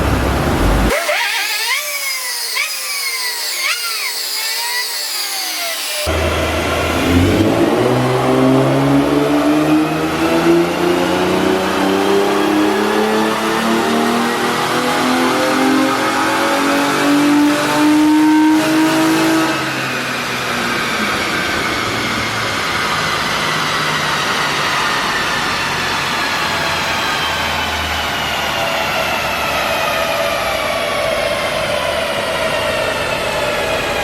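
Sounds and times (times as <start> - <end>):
car engine revving: 0.0 - 1.4, 5.8 - 34.0.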